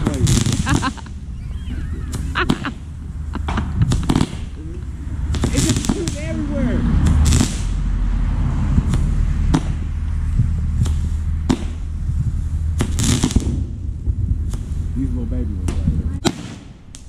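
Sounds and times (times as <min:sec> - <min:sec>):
fireworks bangs: 0:00.0 - 0:17.0
fireworks hiss: 0:00.0 - 0:17.0
low rumble: 0:00.0 - 0:17.0.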